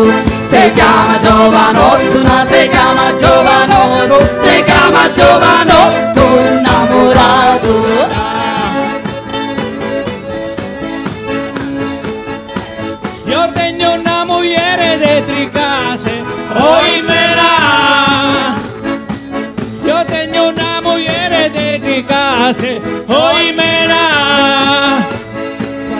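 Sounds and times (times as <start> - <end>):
fast percussion beat: 0.0 - 25.9
folk melody with heavy vibrato: 0.0 - 25.9.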